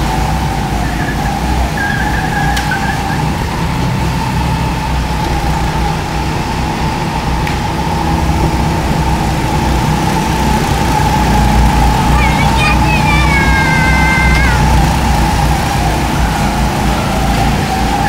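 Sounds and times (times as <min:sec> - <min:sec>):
go-kart engine whine: 0:00.0 - 0:18.0.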